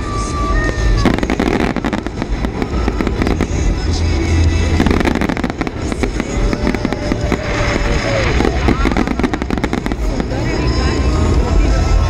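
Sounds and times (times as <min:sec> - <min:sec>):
firework whistle: 0:00.0 - 0:11.3
fireworks crackling: 0:00.0 - 0:12.0
low rumble: 0:00.0 - 0:12.0
firework shells bursting: 0:00.5 - 0:10.6.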